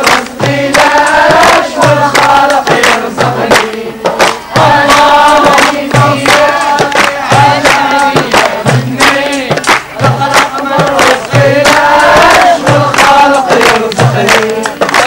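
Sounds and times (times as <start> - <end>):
group singing in unison: 0.0 - 15.0
percussive beat: 0.0 - 15.0.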